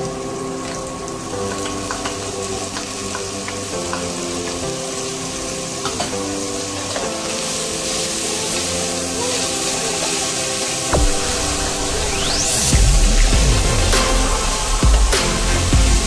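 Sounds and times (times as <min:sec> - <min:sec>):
food sizzling in oil: 0:00.0 - 0:16.0
soft background music: 0:00.0 - 0:16.0.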